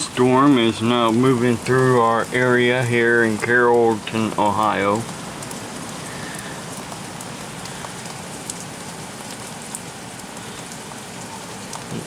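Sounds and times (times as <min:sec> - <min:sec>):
heavy rain hissing: 0:00.0 - 0:12.0
raindrops ticking: 0:00.0 - 0:12.0.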